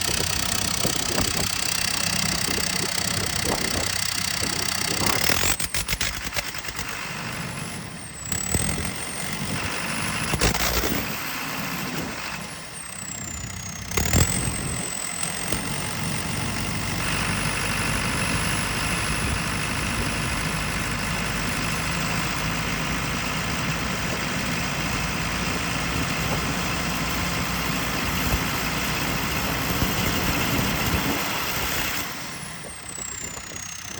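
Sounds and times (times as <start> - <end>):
diesel engine misfiring: 0.0 - 33.9.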